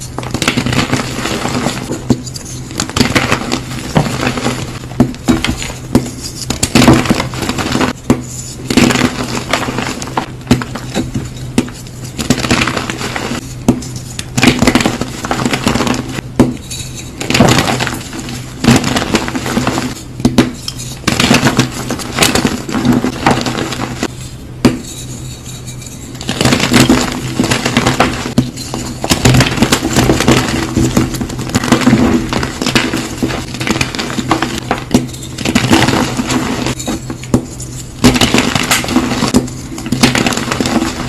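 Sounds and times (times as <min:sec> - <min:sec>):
steady low hum: 0:00.0 - 0:41.0
crunchy material being crushed: 0:00.2 - 0:11.0, 0:11.6 - 0:13.5, 0:17.2 - 0:24.1, 0:26.2 - 0:36.9, 0:38.0 - 0:41.0.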